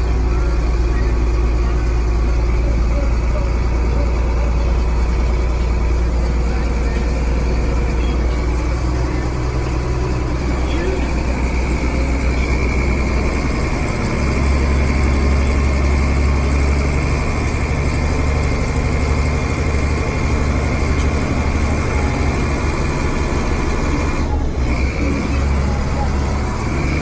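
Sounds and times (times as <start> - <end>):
heavy vehicle engine humming: 0.0 - 27.0.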